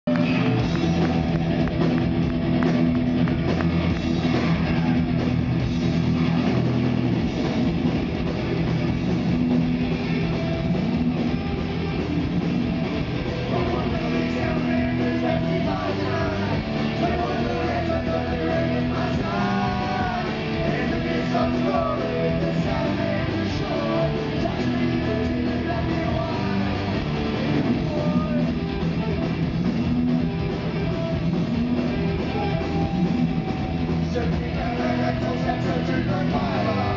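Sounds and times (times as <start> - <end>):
rock band playing live: 0.1 - 36.9.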